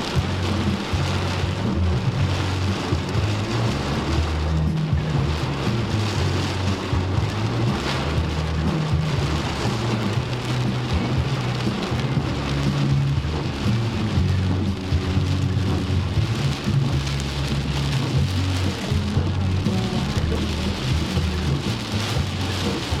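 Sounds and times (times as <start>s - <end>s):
heavy rain drumming: 0.0s - 23.0s.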